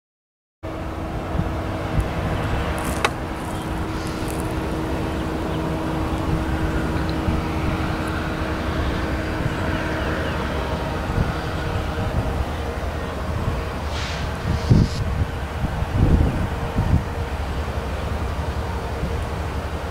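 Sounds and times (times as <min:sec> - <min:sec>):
distant diesel locomotives rumbling: 0:00.6 - 0:19.9.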